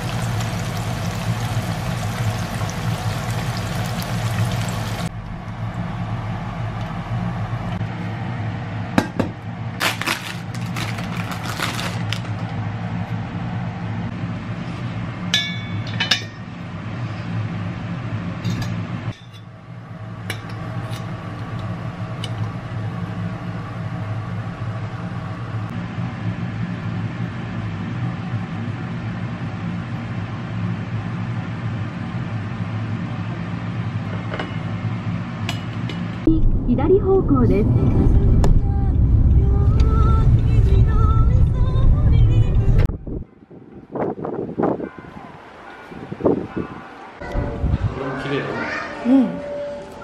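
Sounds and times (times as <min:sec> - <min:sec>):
steady low hum: 0:00.0 - 0:09.8, 0:12.3 - 0:44.0.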